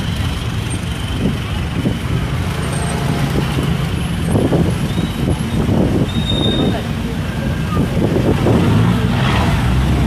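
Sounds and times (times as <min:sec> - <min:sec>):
vehicle engines in slow traffic: 0:00.0 - 0:10.0.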